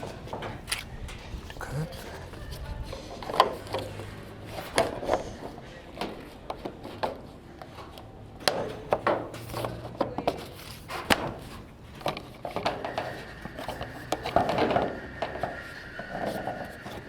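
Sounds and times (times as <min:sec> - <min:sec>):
knocks and clatter of pipes and tools: 0:00.0 - 0:17.0.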